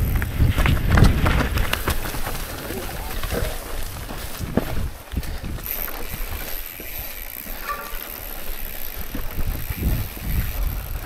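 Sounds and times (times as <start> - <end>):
bike thumping and rattling: 0.0 - 11.0
bike tyres rumbling over trail: 0.0 - 11.0.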